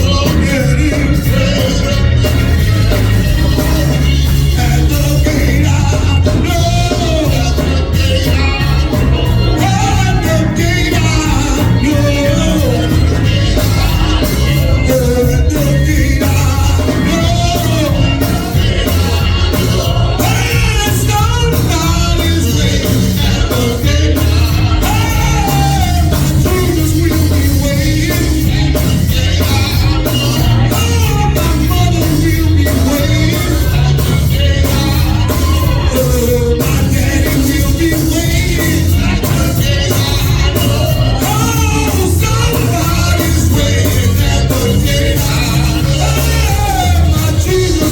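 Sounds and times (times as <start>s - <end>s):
band with steady beat: 0.0s - 47.9s
voices singing: 0.0s - 47.9s.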